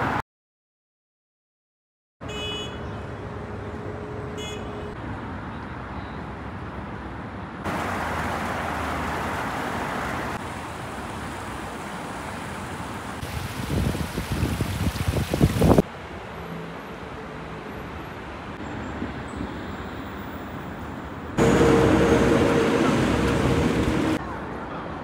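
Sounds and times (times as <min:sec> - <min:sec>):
city traffic noise: 0:00.0 - 0:00.2, 0:02.2 - 0:25.0.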